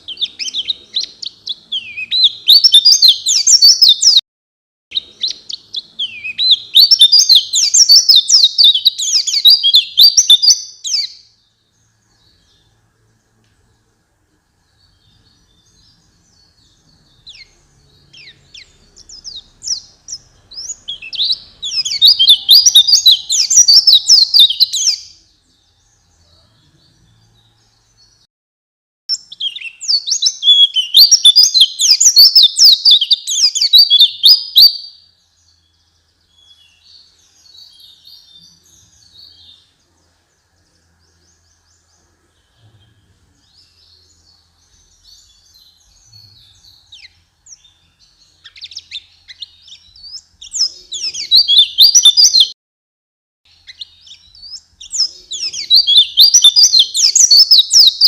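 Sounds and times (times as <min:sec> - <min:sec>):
bird twittering song: 0:00.0 - 0:04.2, 0:04.9 - 0:28.3, 0:29.1 - 0:52.6, 0:53.5 - 0:58.0.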